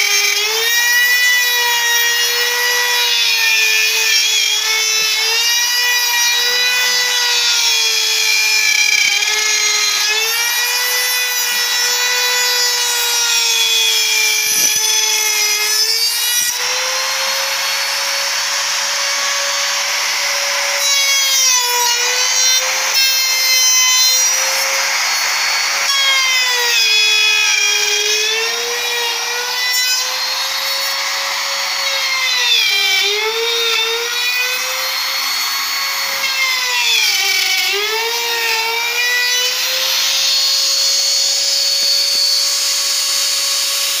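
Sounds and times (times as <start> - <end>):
router high whine: 2.3 - 44.0.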